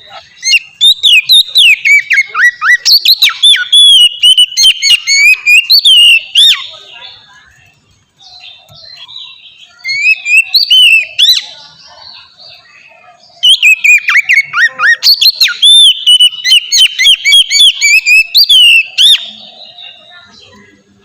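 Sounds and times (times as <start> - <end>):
bird singing whistled phrases: 0.0 - 7.3, 8.2 - 20.8.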